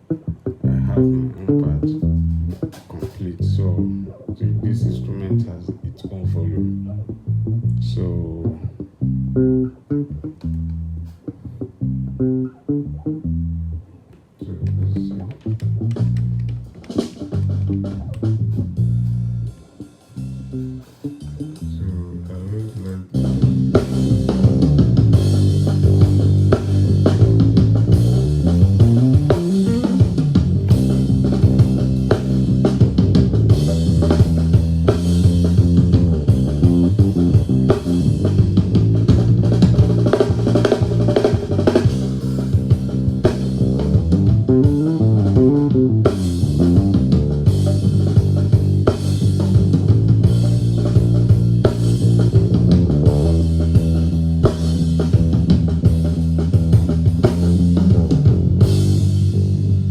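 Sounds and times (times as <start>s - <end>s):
drum kit: 0.0s - 12.5s, 14.5s - 59.9s
bass guitar sliding: 0.0s - 59.9s
guitar: 0.0s - 59.9s.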